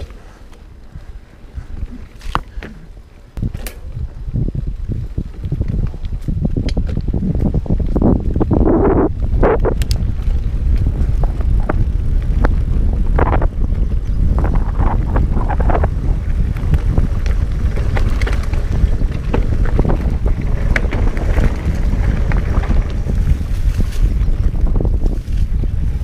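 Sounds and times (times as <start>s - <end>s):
bike rattling over bumps: 0.0s - 26.0s
wind on microphone: 0.0s - 26.0s.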